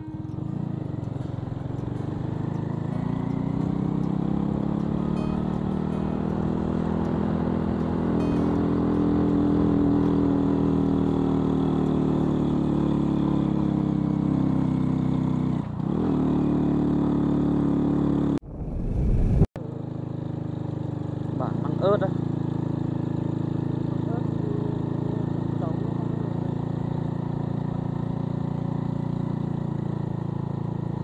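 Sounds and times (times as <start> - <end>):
motorbike engine running: 0.0 - 18.4, 19.6 - 31.0.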